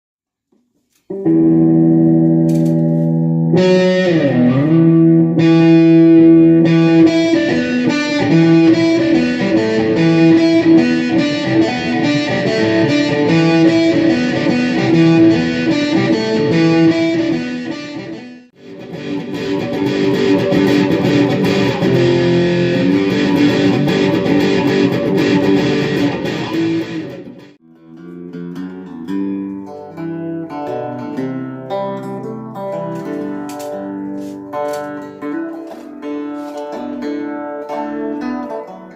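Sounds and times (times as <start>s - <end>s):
electric guitar chords and riffs: 1.0s - 38.9s.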